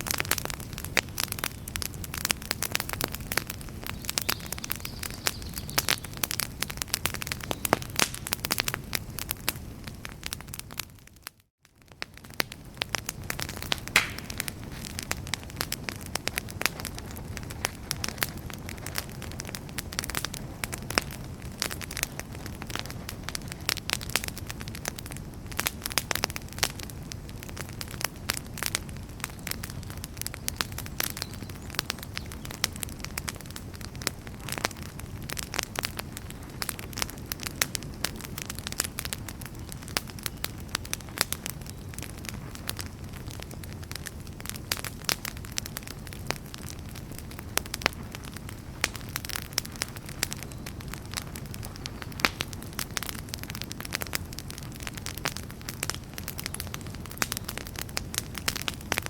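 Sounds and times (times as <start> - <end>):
campfire crackling and popping: 0.0 - 59.0
low rush of flames: 0.0 - 59.0.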